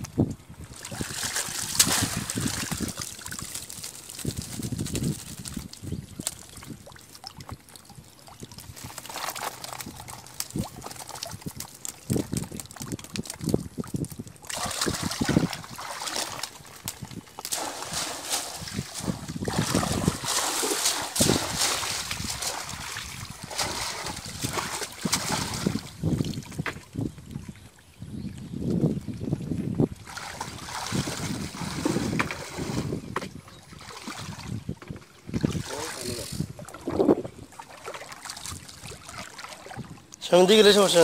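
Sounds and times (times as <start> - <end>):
water splashing and trickling: 0.2 - 41.0.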